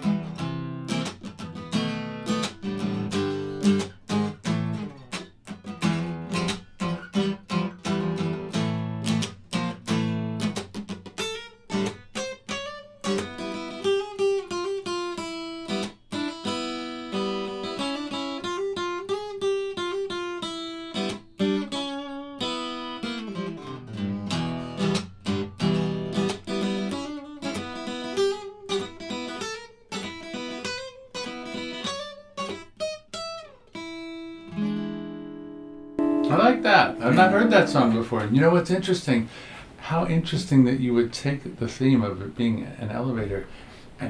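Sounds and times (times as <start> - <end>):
acoustic guitar: 0.0 - 42.4.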